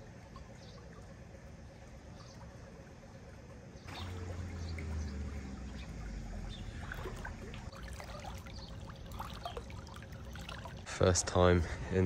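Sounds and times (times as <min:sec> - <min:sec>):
water splashes and drips: 0:00.0 - 0:11.1
pool water sloshing: 0:00.0 - 0:11.4.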